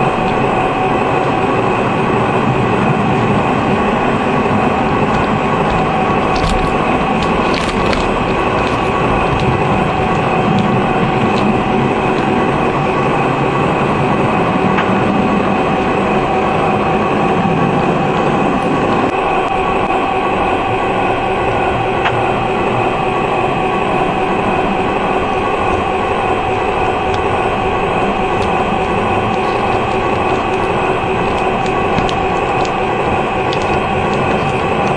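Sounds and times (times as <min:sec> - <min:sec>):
model train running on track: 0:00.0 - 0:34.9.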